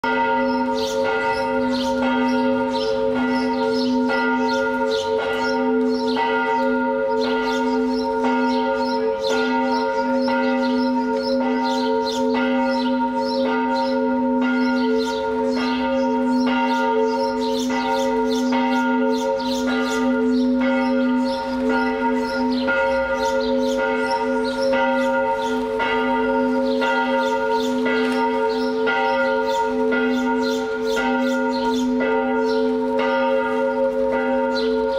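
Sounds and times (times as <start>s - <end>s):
church bells pealing: 0.0s - 34.9s.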